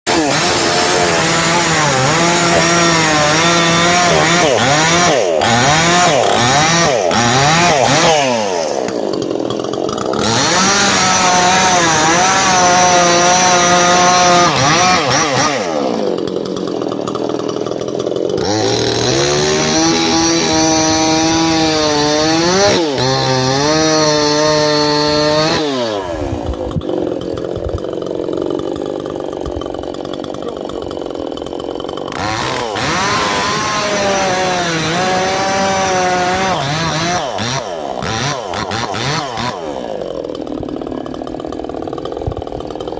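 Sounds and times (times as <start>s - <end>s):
chainsaw cutting wood: 0.1s - 42.9s.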